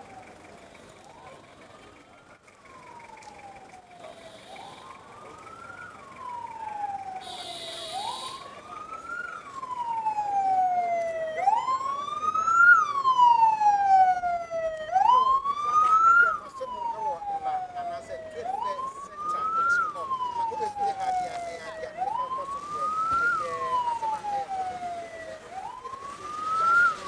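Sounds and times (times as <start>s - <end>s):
emergency siren wailing: 0.0s - 27.0s.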